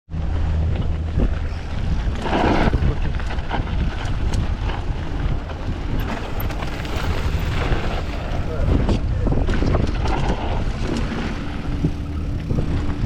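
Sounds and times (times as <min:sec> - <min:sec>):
bike rumbling and clattering: 0:00.1 - 0:13.0
wind buffeting microphone: 0:00.1 - 0:13.0
scraping rush: 0:00.3 - 0:13.0.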